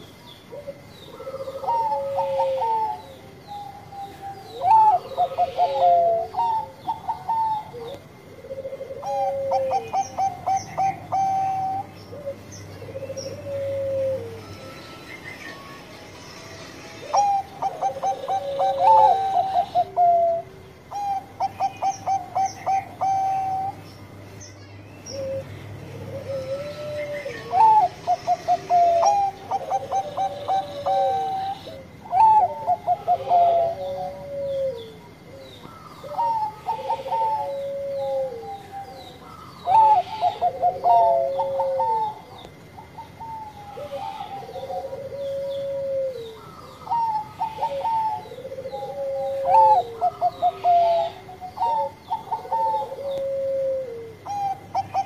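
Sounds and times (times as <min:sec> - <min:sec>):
dove cooing: 0:00.0 - 0:15.7, 0:17.0 - 0:24.0, 0:25.0 - 0:55.0.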